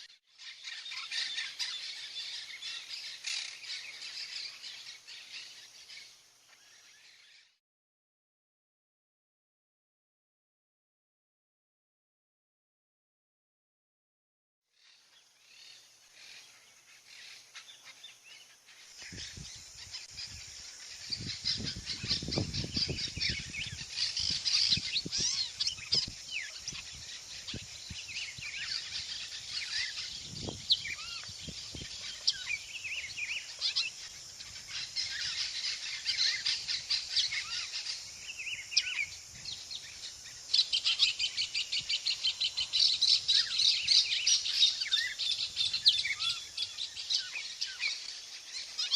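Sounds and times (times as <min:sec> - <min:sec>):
birds chirping and calling: 0:00.0 - 0:07.6, 0:14.8 - 0:48.9
rapid repeated bird call: 0:00.0 - 0:07.6, 0:14.8 - 0:48.9.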